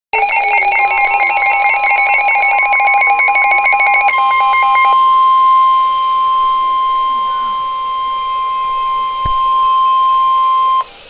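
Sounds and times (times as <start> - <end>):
steady warning tone: 0.1 - 11.0
electronic warble alert tone: 0.2 - 10.8.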